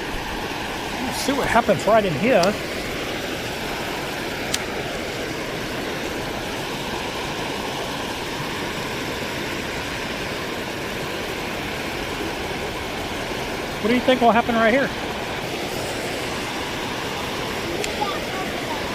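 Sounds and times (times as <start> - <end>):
floodwater rushing in creek: 0.0 - 18.9.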